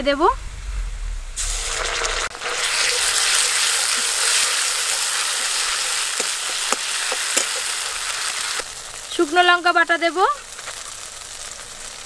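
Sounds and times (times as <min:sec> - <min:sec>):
spice paste sizzling in oil: 0:01.4 - 0:12.0.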